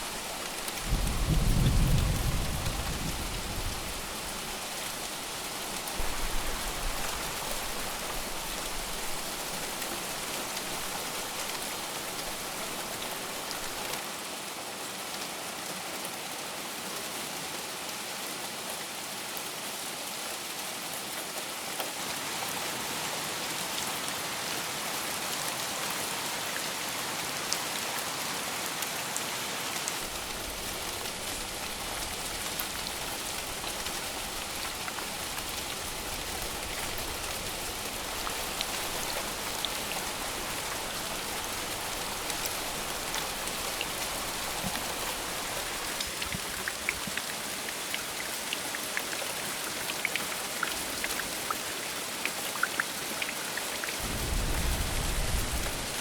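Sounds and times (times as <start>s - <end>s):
heavy rain falling: 0.0s - 16.1s, 20.2s - 56.0s.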